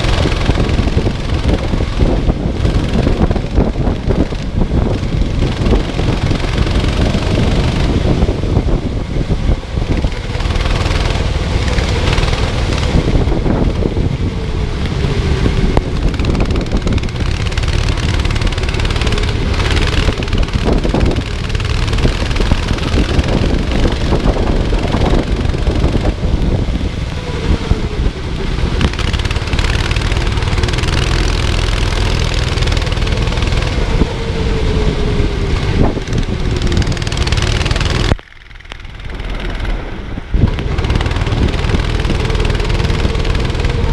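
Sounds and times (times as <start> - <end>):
racing kart engine: 0.0 - 43.9
wind buffeting microphone: 0.0 - 43.9.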